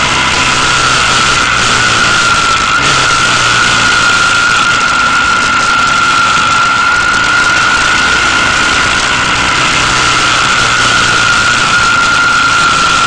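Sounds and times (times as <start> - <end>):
motorcycle engine drone: 0.0 - 13.0
steady high whine: 0.0 - 13.0
wind noise on microphone: 0.0 - 13.0.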